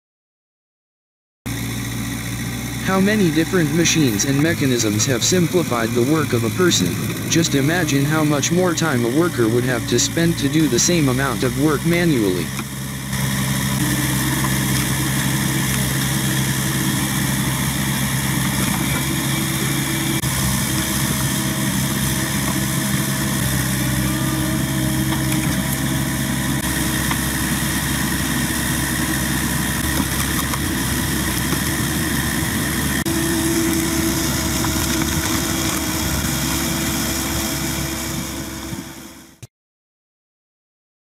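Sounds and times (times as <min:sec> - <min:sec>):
log splitter boring into logs: 0:01.5 - 0:39.5
small loader engine running: 0:01.5 - 0:39.5.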